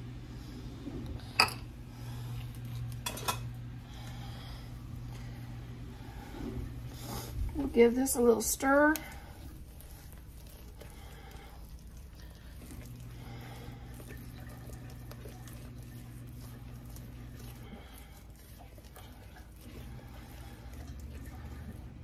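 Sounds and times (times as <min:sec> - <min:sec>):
steady low hum: 0:00.0 - 0:22.0
spoon stirring thick batter: 0:04.0 - 0:22.0.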